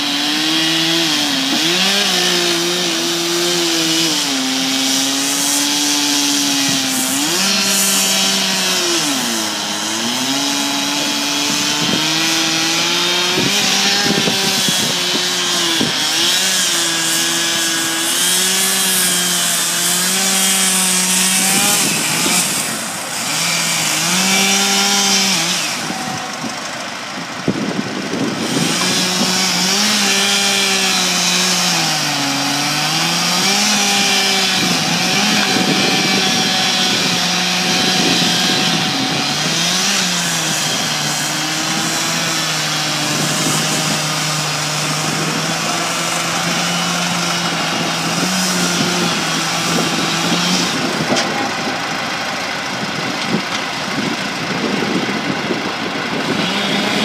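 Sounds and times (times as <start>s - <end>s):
chainsaw cutting logs: 0.0s - 57.0s.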